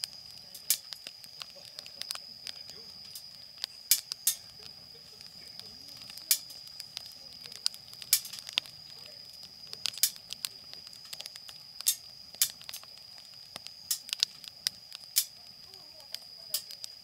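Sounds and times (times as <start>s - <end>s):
sharp pops: 0.0s - 17.0s
wood fire crackling: 0.0s - 17.0s.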